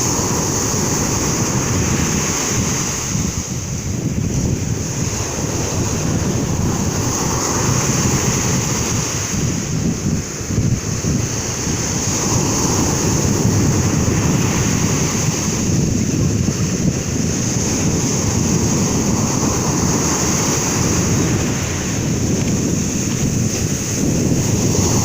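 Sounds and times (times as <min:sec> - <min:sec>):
sea waves washing: 0:00.0 - 0:25.0
wind buffeting microphone: 0:00.0 - 0:25.0.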